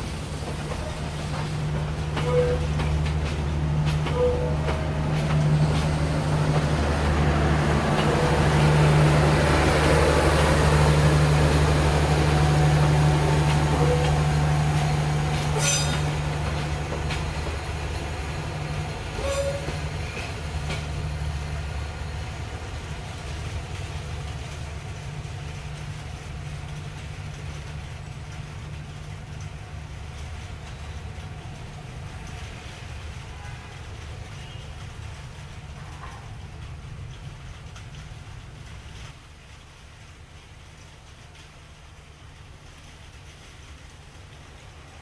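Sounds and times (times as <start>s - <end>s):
diesel locomotive engine drone: 0.0s - 45.0s.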